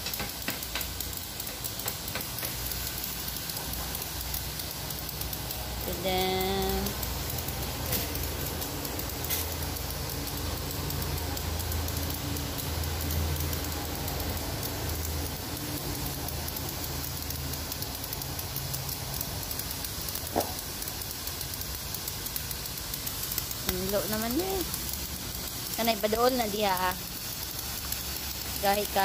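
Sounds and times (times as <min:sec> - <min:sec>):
pressure washer spray hissing: 0:00.0 - 0:29.0.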